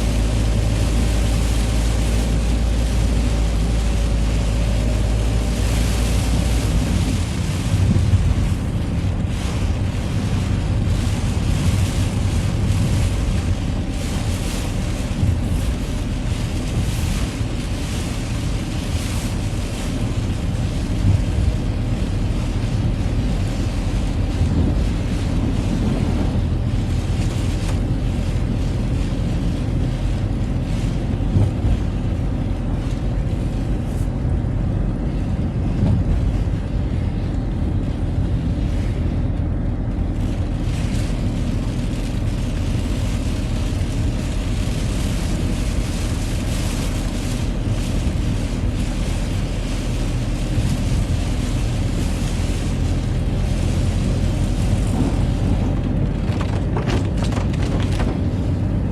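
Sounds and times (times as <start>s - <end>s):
car engine and road rumble: 0.0s - 58.9s
tyres hissing on wet road: 0.0s - 58.9s.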